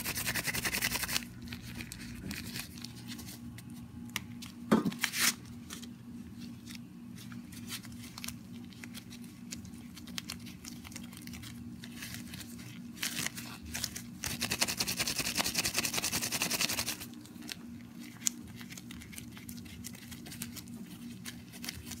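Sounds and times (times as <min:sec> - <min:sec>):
low steady hum: 0:00.0 - 0:22.0
rubber gloves rubbing and crinkling: 0:00.0 - 0:22.0.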